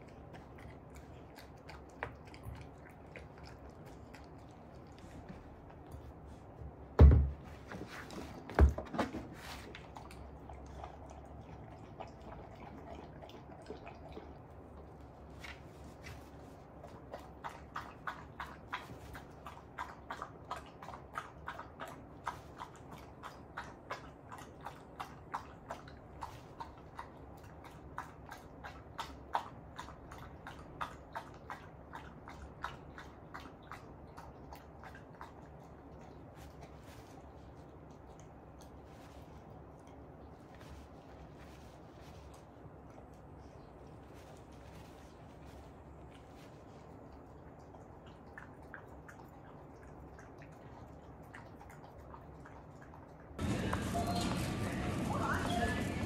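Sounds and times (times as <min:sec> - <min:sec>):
dog lapping water: 0:00.0 - 0:06.1, 0:07.6 - 0:43.6, 0:44.8 - 0:53.8.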